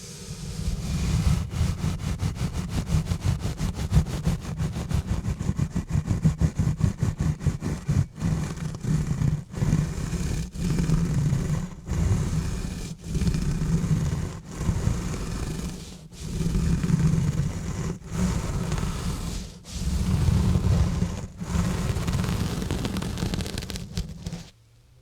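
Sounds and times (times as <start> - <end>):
gloves scratching on microphone: 0.4 - 24.6.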